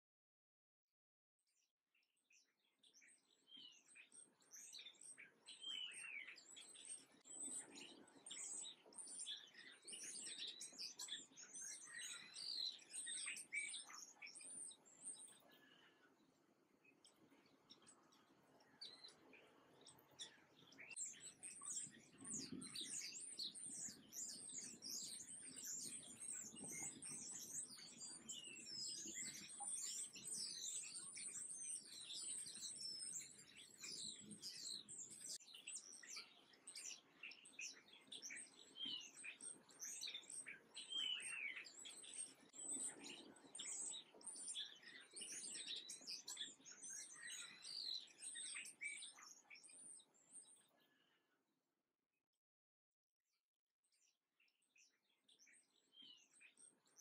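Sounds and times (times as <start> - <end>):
small birds chirping chorus: 1.4 - 51.6, 53.8 - 57.0.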